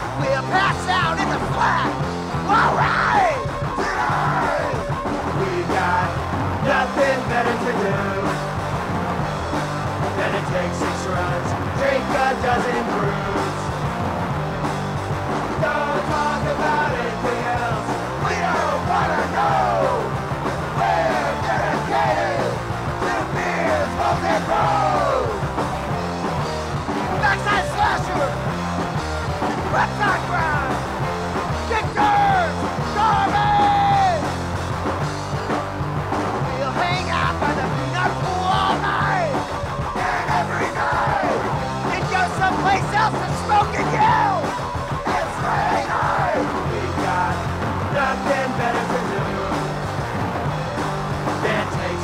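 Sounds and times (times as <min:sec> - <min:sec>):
punk rock song: 0:00.0 - 0:52.0.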